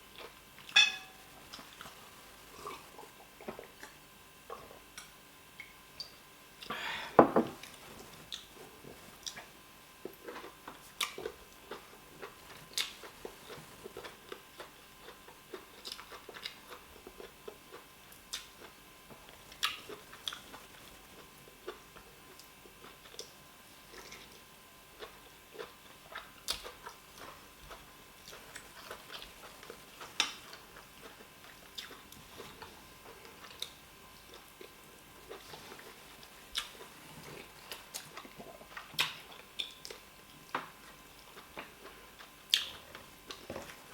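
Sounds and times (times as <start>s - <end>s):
soft chewing: 0.0s - 6.7s, 7.6s - 43.9s.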